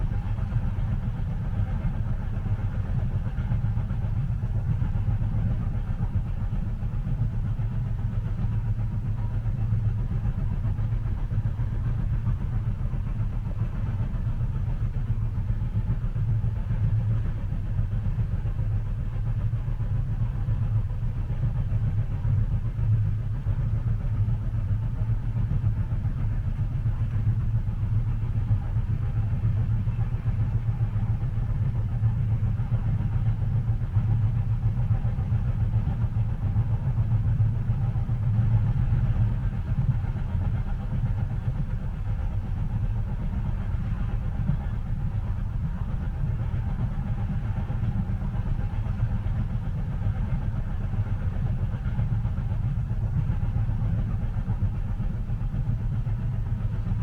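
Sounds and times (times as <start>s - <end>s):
train rumble inside cabin: 0.0s - 57.0s.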